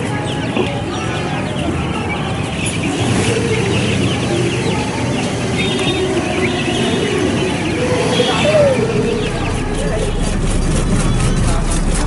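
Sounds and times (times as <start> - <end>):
chicks peeping: 0.0 - 12.0
chickens clucking: 0.5 - 12.0.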